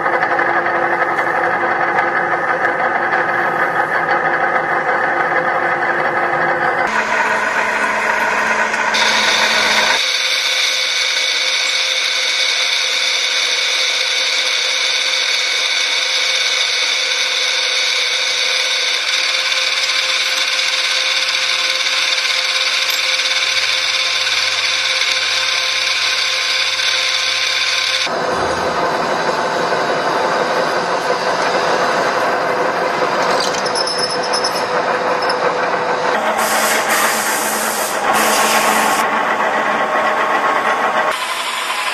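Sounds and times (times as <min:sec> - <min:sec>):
high-pitched metal cutting noise: 0:00.0 - 0:41.9
machine hum: 0:00.0 - 0:41.9.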